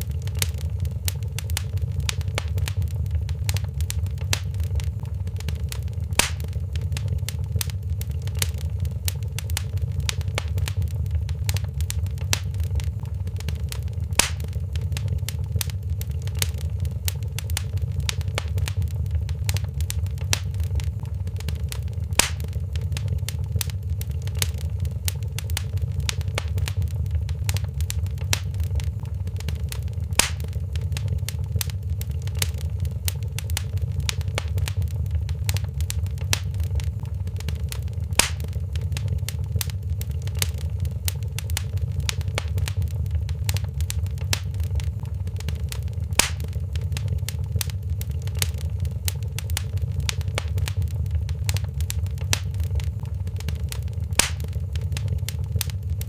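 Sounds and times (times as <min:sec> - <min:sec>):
wood fire crackling: 0:00.0 - 0:56.0
sharp fire pop: 0:00.1 - 0:56.0.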